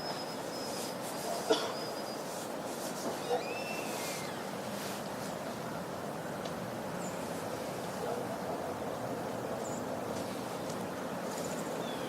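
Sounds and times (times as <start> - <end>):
outdoor background rush: 0.0 - 12.0.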